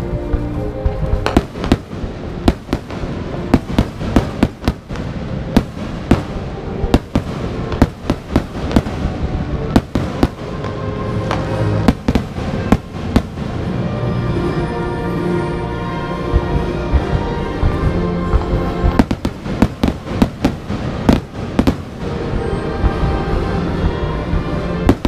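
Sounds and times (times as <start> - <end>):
music playing: 0.0 - 25.0.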